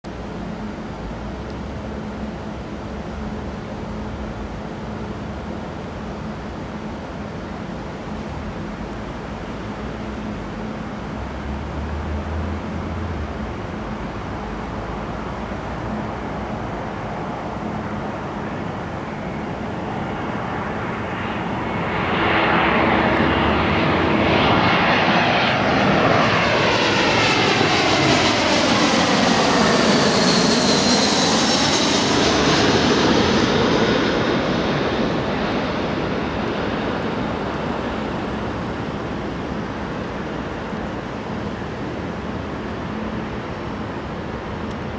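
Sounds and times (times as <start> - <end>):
high fan whine: 0.0 - 44.9
jet airliner passing overhead: 0.1 - 44.9.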